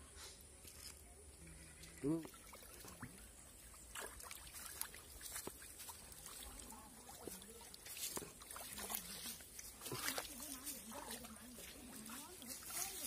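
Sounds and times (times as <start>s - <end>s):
light water trickle: 0.0s - 13.0s
water splashing and dripping: 1.7s - 13.0s.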